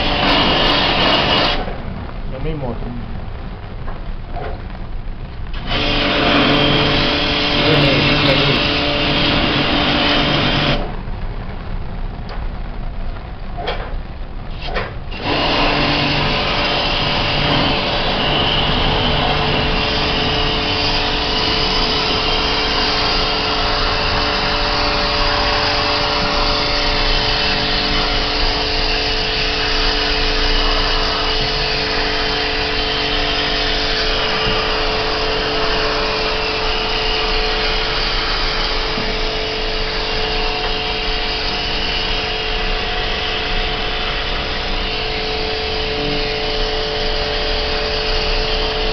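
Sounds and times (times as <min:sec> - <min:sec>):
pump motor hum: 0:00.0 - 0:01.8, 0:05.5 - 0:10.9, 0:15.1 - 0:48.9
hose spraying water: 0:00.0 - 0:02.8, 0:05.5 - 0:11.0, 0:14.5 - 0:48.9.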